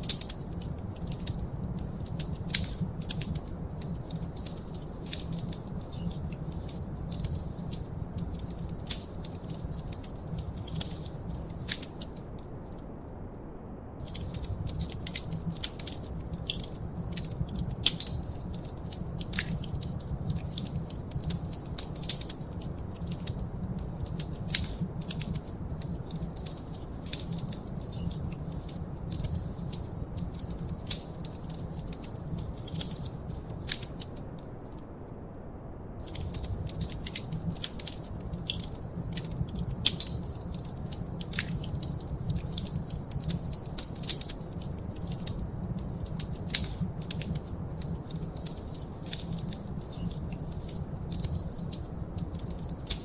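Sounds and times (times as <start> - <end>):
wood fire crackling and popping: 0.0 - 12.8, 14.0 - 35.0, 36.0 - 53.0
low fire rumble: 0.0 - 53.0.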